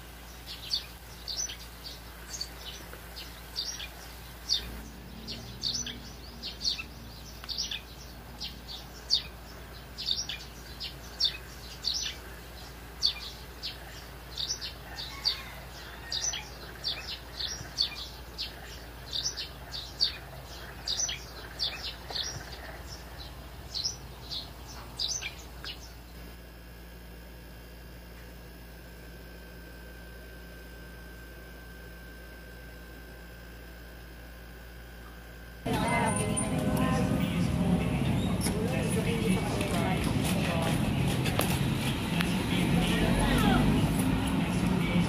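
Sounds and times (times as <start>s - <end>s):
small birds chirping: 0.0s - 26.3s, 33.5s - 45.0s
faint steady hum: 0.0s - 45.0s.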